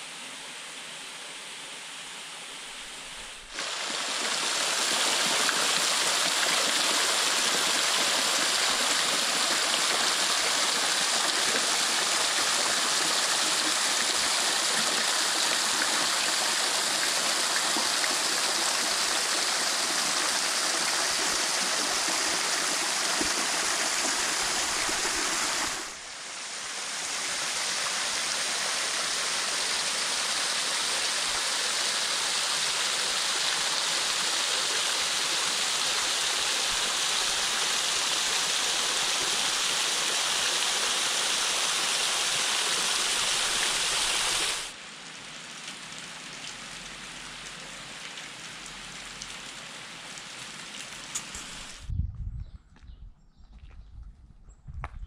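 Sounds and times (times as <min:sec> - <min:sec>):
waterfall splashing into pool: 0:03.3 - 0:44.8, 0:45.4 - 0:51.9.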